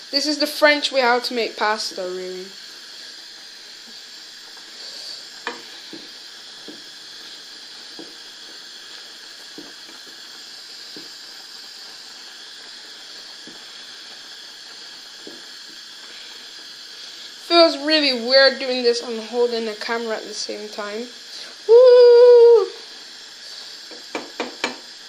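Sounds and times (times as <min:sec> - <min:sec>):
pasta water boiling and bubbling: 0:00.0 - 0:25.0.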